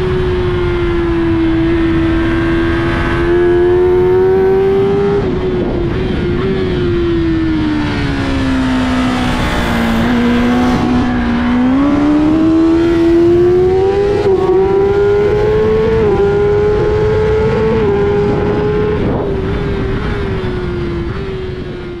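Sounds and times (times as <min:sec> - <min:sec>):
heavy wind rush: 0:00.0 - 0:22.0
motorcycle engine at racing speed: 0:00.0 - 0:22.0.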